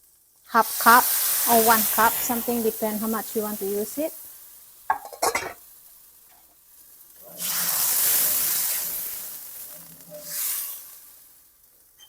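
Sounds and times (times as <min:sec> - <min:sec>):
liquid hissing in hot wok: 0:00.0 - 0:12.0.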